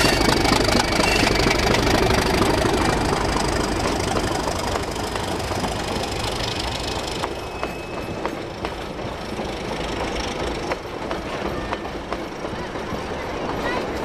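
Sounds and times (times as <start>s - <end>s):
train carriages rolling past: 0.0s - 14.0s
wheel clicks over rail joints: 0.0s - 14.0s.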